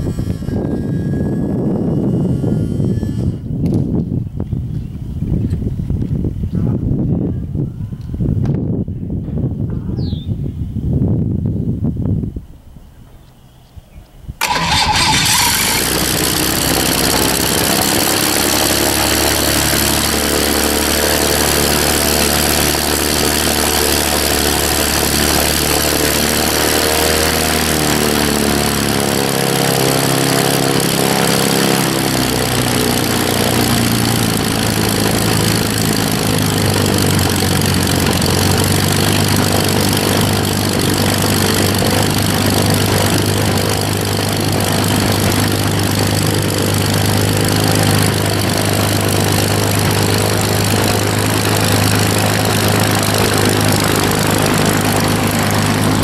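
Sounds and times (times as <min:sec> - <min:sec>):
propeller aircraft engine running: 0:00.0 - 0:09.7, 0:10.5 - 0:56.0.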